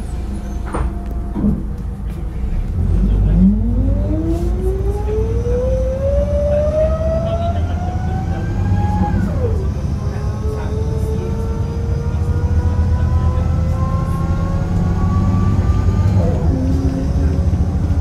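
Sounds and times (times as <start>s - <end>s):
bus transmission whining: 0.0s - 18.0s
diesel engine rumbling: 0.0s - 18.0s.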